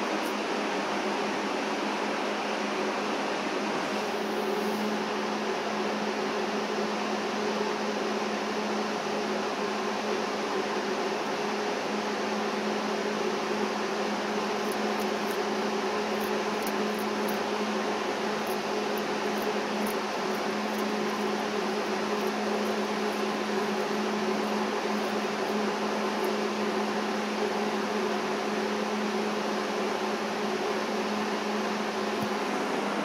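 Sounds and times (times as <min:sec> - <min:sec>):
fan humming: 0:00.0 - 0:33.0.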